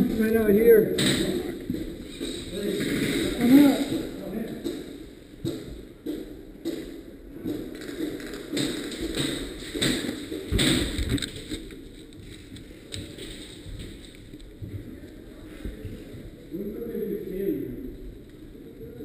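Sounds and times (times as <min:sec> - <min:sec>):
irregular taps and thumps: 0:01.0 - 0:16.3.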